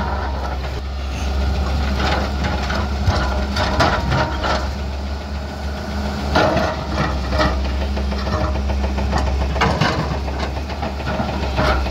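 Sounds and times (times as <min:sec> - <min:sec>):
excavator diesel engine running: 0:00.0 - 0:11.9.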